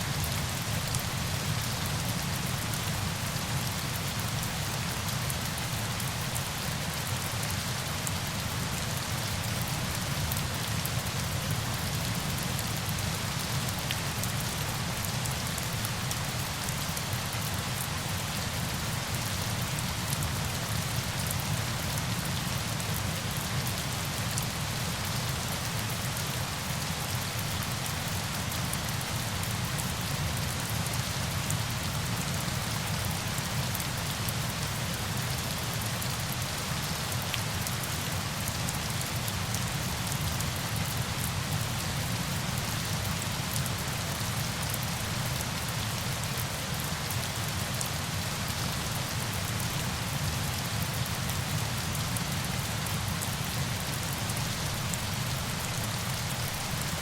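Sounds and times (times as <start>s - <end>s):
rush of falling water: 0.0s - 57.0s.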